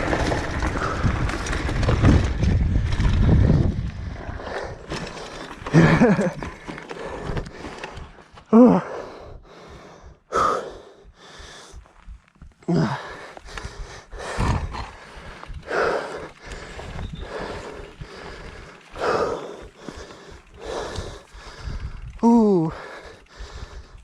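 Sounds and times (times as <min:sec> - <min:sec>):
wind rumble on microphone: 0:00.0 - 0:05.0, 0:09.2 - 0:24.0
heavy breathing: 0:03.4 - 0:24.0.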